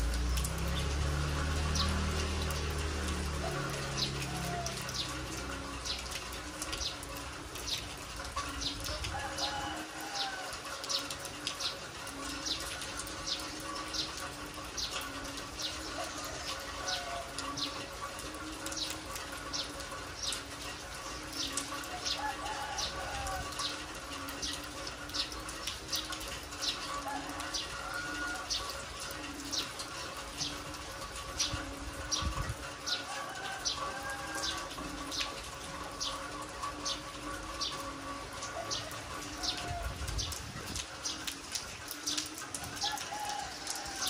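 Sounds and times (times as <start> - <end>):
steady rain: 0.0 - 44.0
water dripping: 0.0 - 44.0.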